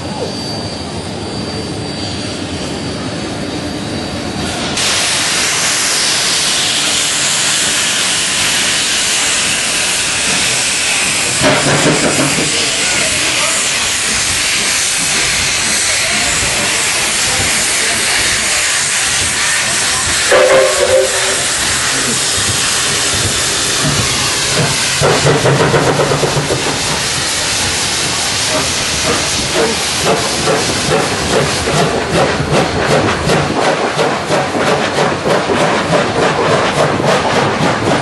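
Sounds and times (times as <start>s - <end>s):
train running noise: 0.0s - 38.0s
steam hissing: 4.5s - 38.0s.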